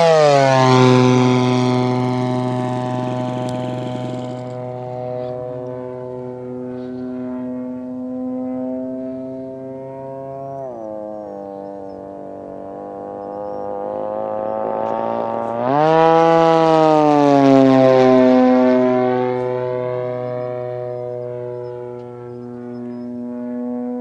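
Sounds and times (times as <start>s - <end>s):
model plane engine droning: 0.0s - 24.0s.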